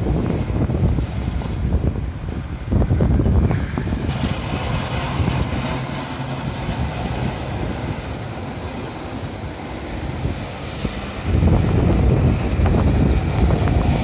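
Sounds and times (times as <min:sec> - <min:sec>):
diesel engine humming: 0:00.0 - 0:14.0
street noise: 0:00.0 - 0:14.0
wind: 0:00.0 - 0:14.0.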